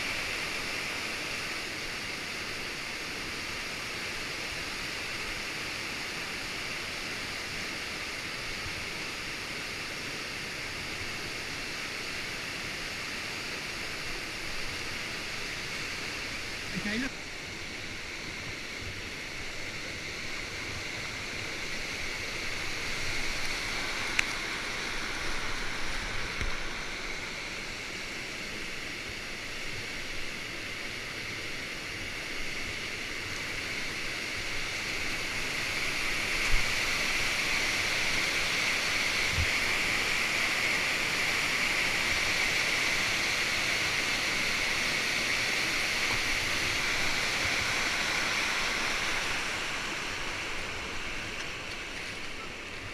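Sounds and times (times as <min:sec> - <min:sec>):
water rushing over a weir: 0:00.0 - 0:52.9.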